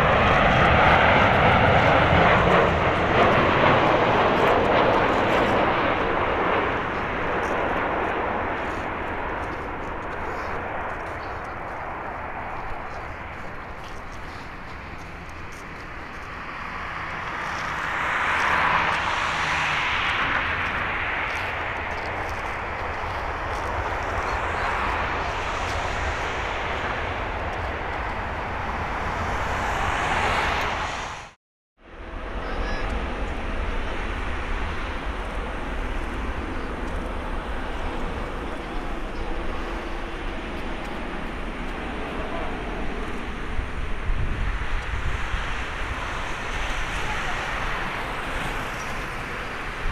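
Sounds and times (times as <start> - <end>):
jet engine reverse thrust roar: 0.0 - 49.9.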